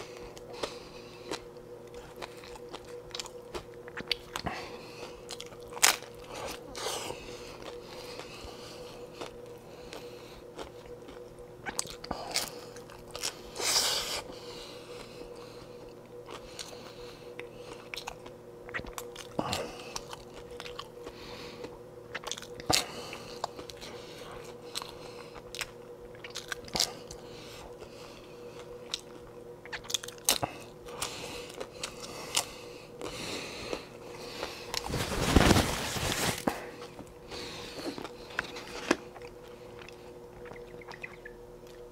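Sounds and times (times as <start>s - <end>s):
faint steady hum: 0.0s - 41.9s
person crunching taco shells: 0.2s - 8.4s, 9.0s - 14.2s, 17.4s - 27.9s, 28.6s - 41.9s.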